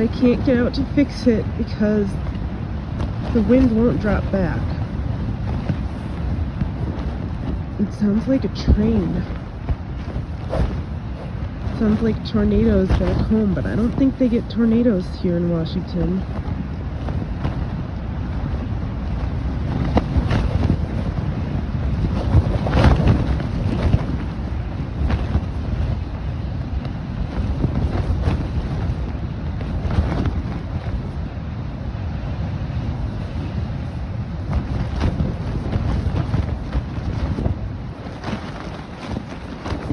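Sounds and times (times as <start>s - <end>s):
tent fabric slapping: 0.0s - 31.5s, 32.7s - 39.9s
strong gusting wind: 0.0s - 39.9s.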